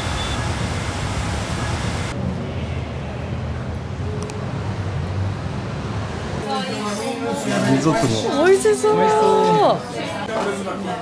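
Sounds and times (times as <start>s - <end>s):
traffic rumble: 0.0s - 8.8s.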